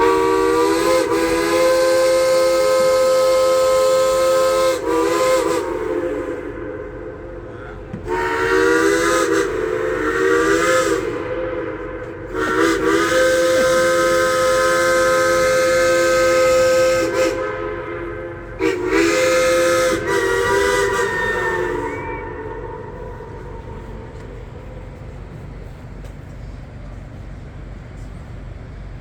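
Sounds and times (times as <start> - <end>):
steam locomotive chime whistle: 0.0 - 25.0
steam hissing: 0.0 - 26.6.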